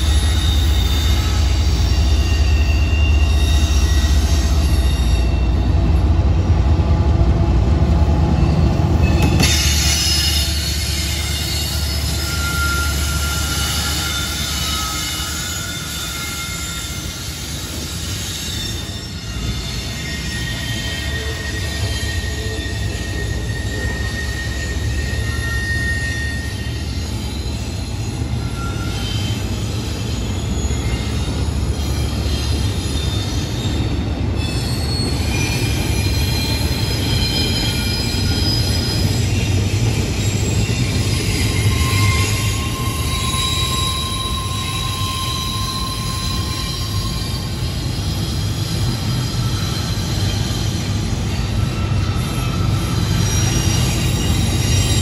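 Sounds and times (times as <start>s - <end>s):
high-pitched wheel squeals: 0.0s - 5.8s, 8.4s - 55.0s
low wheel squeal: 0.0s - 5.8s, 8.4s - 55.0s
freight train rumbling on rails: 0.0s - 55.0s.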